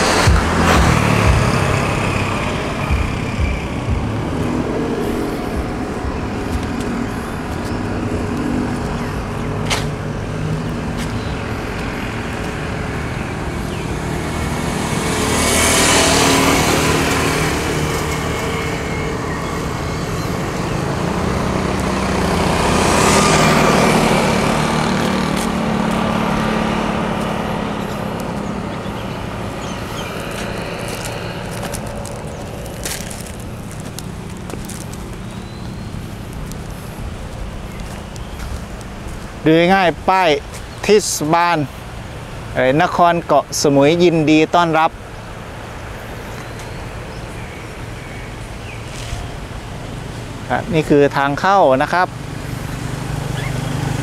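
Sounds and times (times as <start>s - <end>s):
road traffic rumble: 0.0s - 54.0s
vehicles passing close by: 0.0s - 54.0s.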